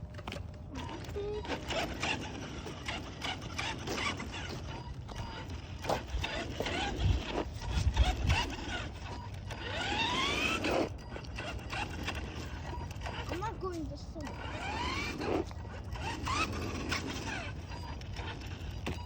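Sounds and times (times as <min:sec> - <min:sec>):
toy truck motor whining: 0:00.1 - 0:19.0.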